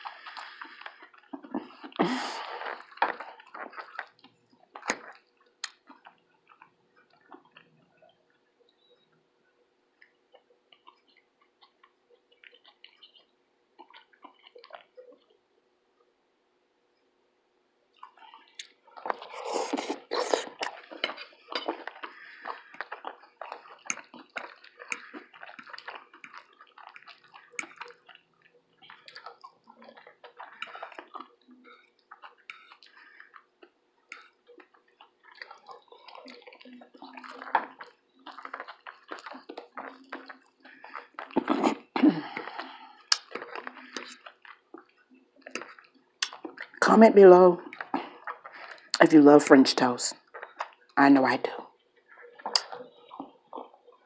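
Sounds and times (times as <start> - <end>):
wet chewing and mouth clicks: 0.0 - 9.1, 9.8 - 15.5, 17.9 - 49.1, 49.8 - 54.0.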